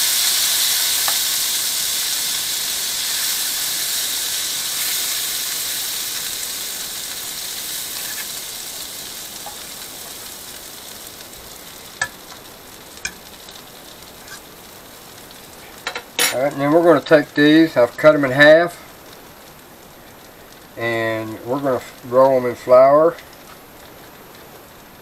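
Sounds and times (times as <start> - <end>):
butter sizzling in a skillet: 0.0 - 25.0.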